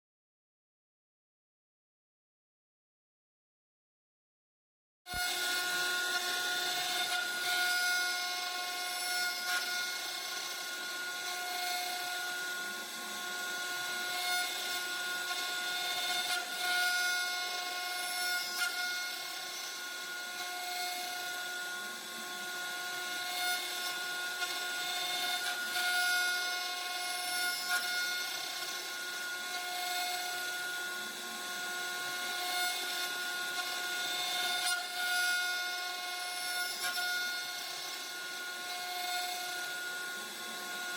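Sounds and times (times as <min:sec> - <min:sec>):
cutter machining wood: 0:05.1 - 0:40.9
router spindle whining: 0:05.1 - 0:40.9.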